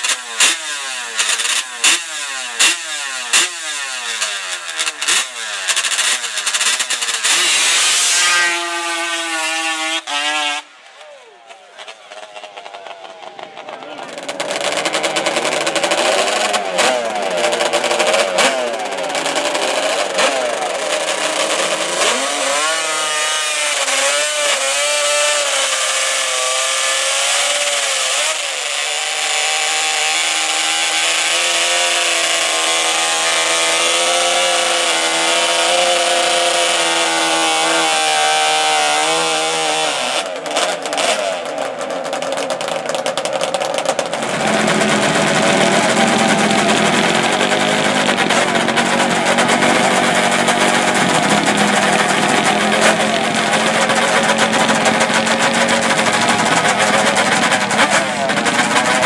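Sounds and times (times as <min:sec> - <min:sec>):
atv engines revving: 0:00.0 - 0:59.0.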